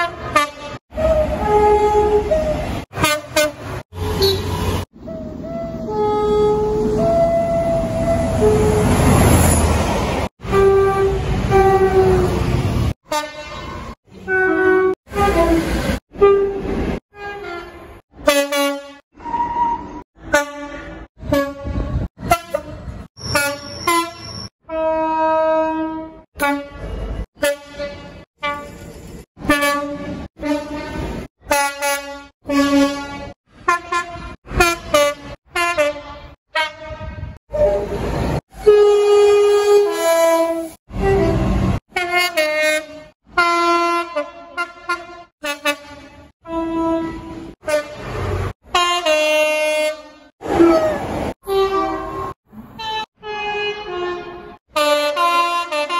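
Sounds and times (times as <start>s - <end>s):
diesel locomotive horn blasts: 0.0s - 9.5s, 10.4s - 37.9s, 38.5s - 55.9s.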